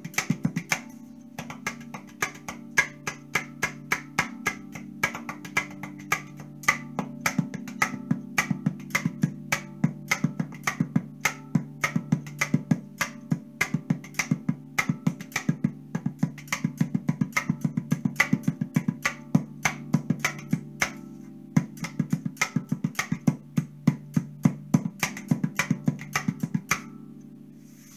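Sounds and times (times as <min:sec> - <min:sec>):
hands slapping steel tongue drum: 0:00.0 - 0:27.9.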